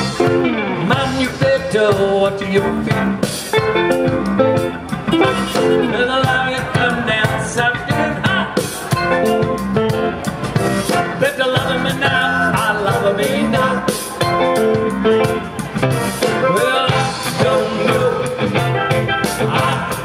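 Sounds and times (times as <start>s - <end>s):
drum kit: 0.0s - 20.0s
electric bass: 0.0s - 20.0s
electric guitar: 0.0s - 20.0s.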